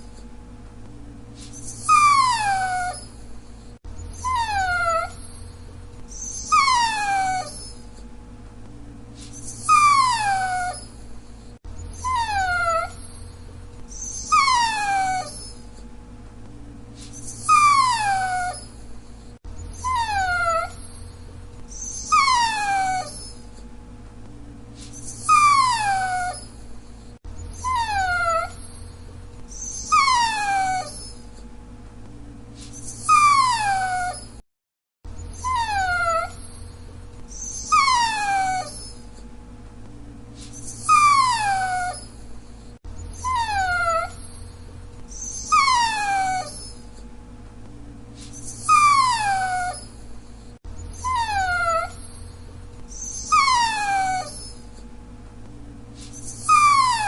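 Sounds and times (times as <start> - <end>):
dog whining: 1.4 - 8.1, 9.2 - 15.9, 17.0 - 23.7, 24.8 - 31.5, 32.6 - 34.4, 35.1 - 39.3, 40.4 - 47.1, 48.2 - 54.9, 56.0 - 57.0.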